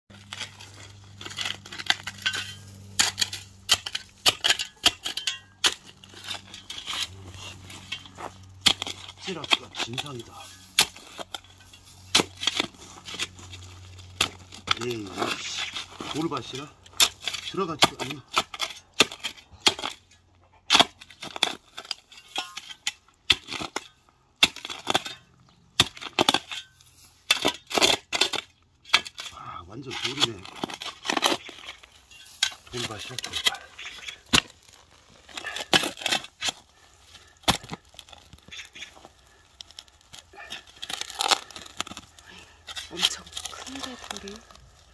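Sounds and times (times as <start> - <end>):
scraping and crunching of gravel: 0.1 - 44.9
spade clinking on stones: 0.2 - 44.4.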